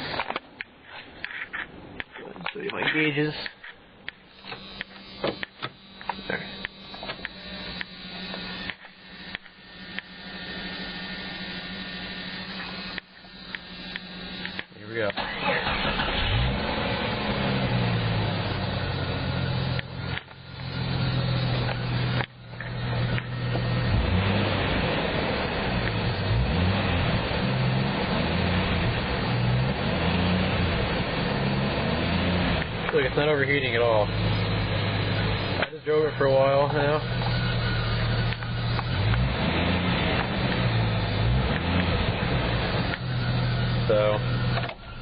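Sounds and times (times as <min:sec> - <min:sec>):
car engine idling: 0:02.0 - 0:45.0.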